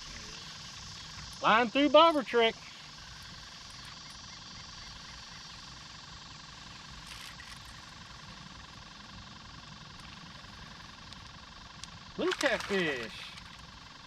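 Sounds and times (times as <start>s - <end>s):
insects chirping and buzzing: 0.0s - 14.0s.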